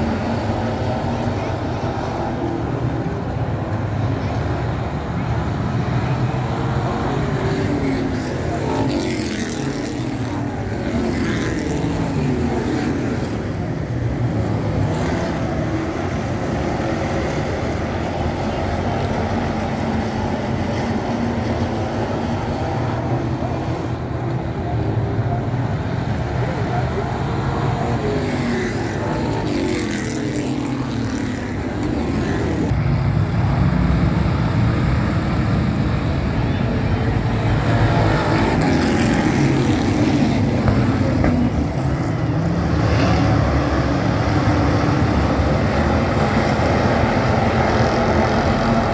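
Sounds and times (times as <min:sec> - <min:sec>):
stock car engines racing: 0:00.0 - 0:48.9.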